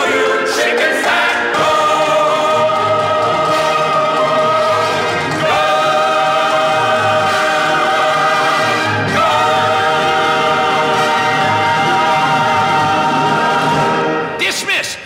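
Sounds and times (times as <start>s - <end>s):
choir singing held chords: 0.0s - 14.4s.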